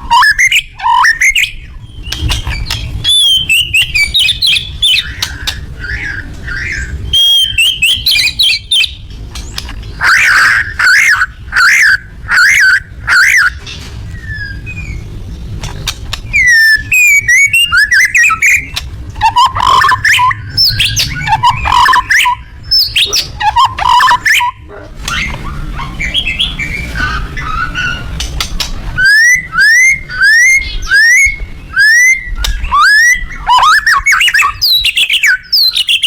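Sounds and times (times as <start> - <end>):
songbird singing: 0.0 - 36.0.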